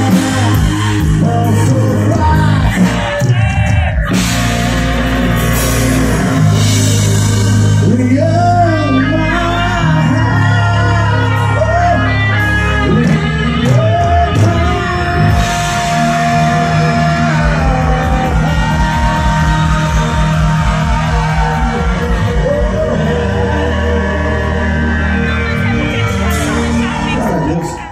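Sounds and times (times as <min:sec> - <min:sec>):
man singing lead vocal: 0:00.0 - 0:27.9
rock band playing live: 0:00.0 - 0:27.9.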